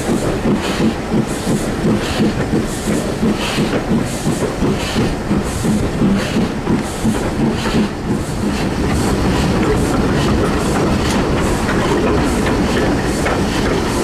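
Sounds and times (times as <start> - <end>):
steam locomotive hiss: 0.0 - 14.0
train wheels clattering on rails: 0.0 - 14.0.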